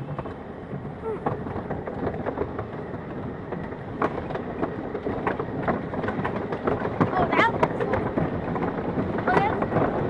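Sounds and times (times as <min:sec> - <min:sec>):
cars knocking and rattling: 0:00.0 - 0:10.0
roller coaster wheels rumbling: 0:00.0 - 0:10.0
wind on microphone: 0:00.0 - 0:10.0.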